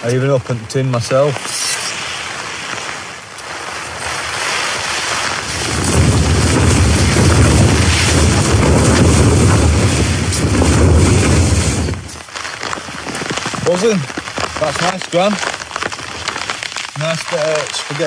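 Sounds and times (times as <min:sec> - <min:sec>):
wind buffeting tent: 0:00.0 - 0:18.0.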